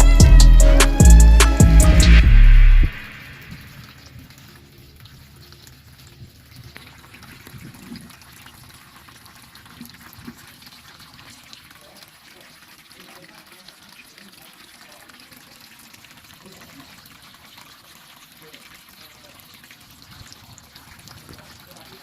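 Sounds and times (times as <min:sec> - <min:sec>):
water trickling and splashing: 0:03.0 - 0:22.0
small water drips: 0:03.2 - 0:22.0.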